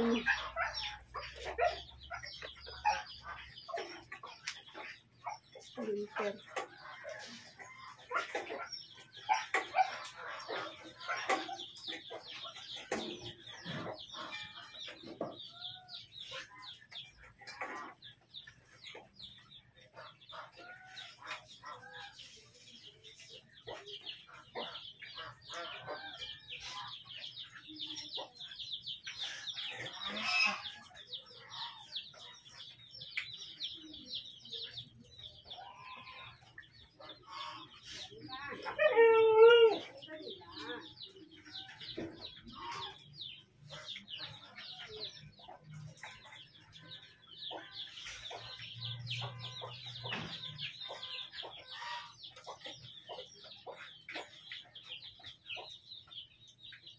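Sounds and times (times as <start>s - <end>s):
chickens clucking: 0.0s - 56.9s
chicks peeping: 0.0s - 56.9s.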